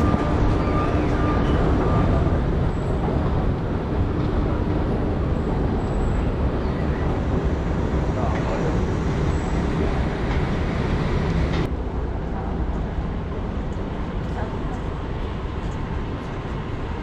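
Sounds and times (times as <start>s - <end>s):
escalator rumbling: 0.0s - 17.0s.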